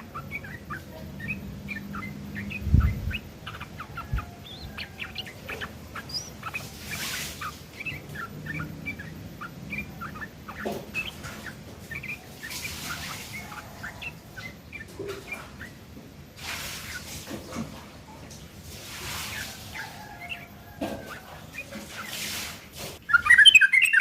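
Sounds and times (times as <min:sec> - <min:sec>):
bird chattering song: 0:00.0 - 0:18.3, 0:19.0 - 0:24.0.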